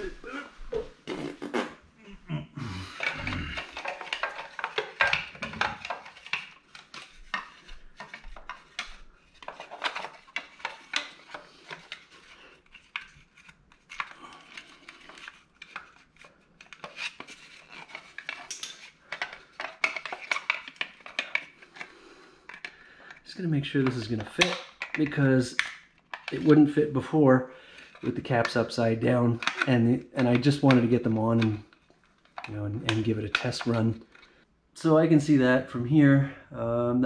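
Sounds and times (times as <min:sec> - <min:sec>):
hands fitting plastic parts: 0:02.8 - 0:26.8, 0:27.8 - 0:34.4.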